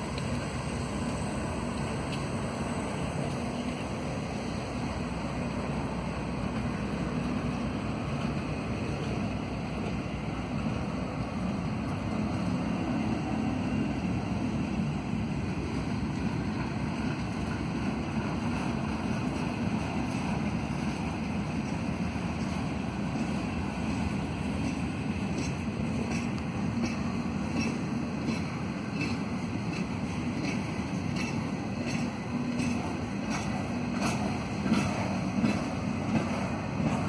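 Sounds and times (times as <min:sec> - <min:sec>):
train rolling past: 0:00.0 - 0:37.0.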